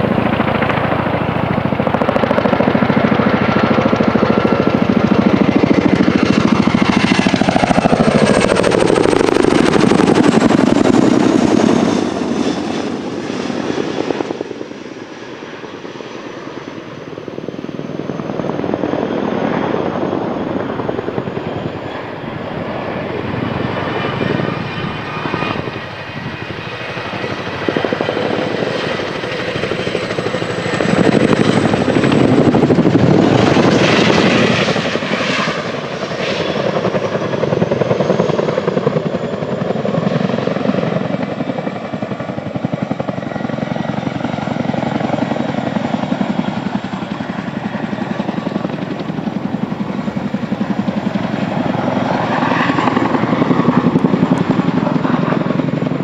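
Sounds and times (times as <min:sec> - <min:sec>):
helicopter rotors beating: 0:00.0 - 0:56.0
high turbine whine: 0:00.0 - 0:56.0.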